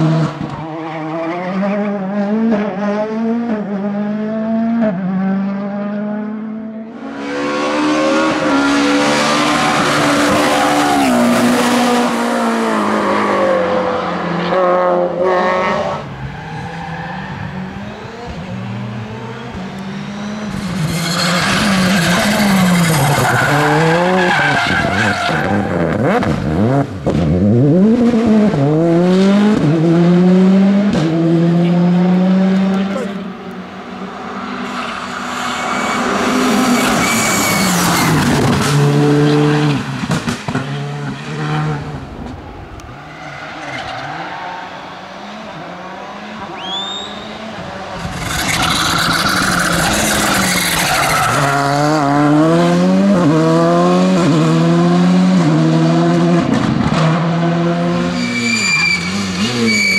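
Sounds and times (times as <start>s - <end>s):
rally cars passing at speed: 0.0s - 59.9s.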